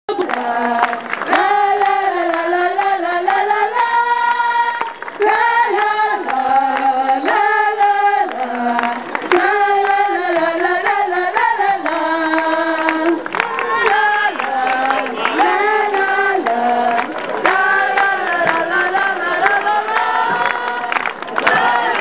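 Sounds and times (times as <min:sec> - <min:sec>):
group singing: 0:00.1 - 0:22.0.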